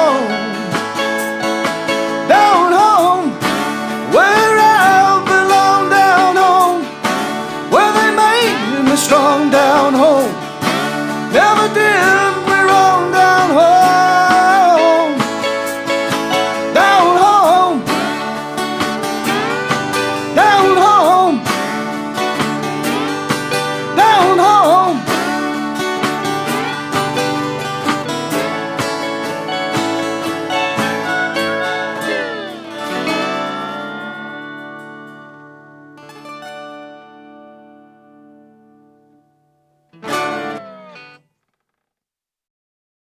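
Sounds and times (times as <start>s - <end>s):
person singing with vibrato: 0.0s - 35.6s
acoustic guitars playing: 0.0s - 41.3s.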